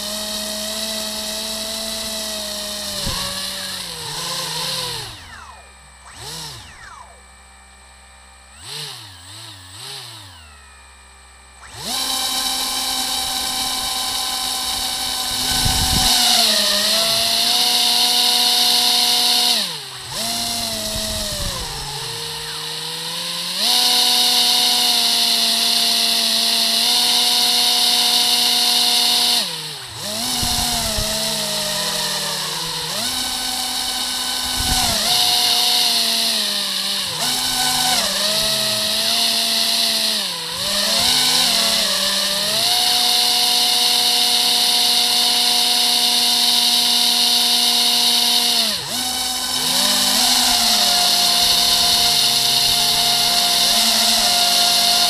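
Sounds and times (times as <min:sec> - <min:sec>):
propeller motors whining: 0:00.0 - 0:55.0.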